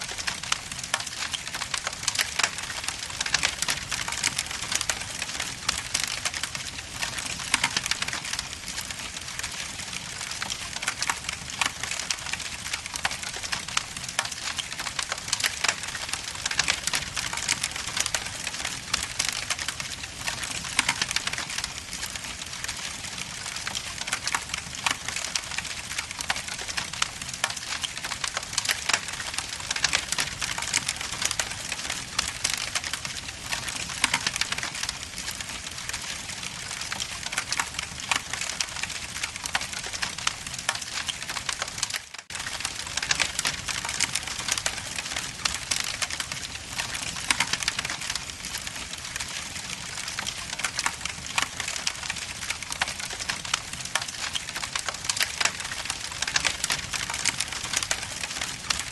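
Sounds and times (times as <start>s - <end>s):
logs crackling and popping: 0.0s - 58.9s.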